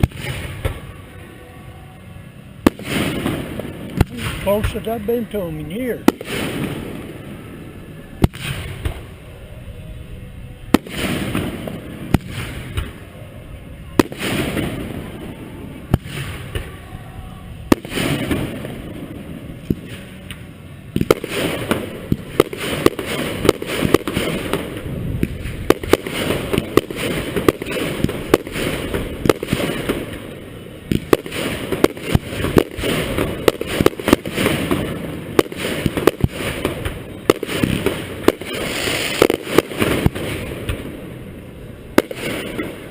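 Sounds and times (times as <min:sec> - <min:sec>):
fireworks bangs and crackling: 0:00.0 - 0:01.2, 0:02.6 - 0:09.4, 0:10.6 - 0:42.9.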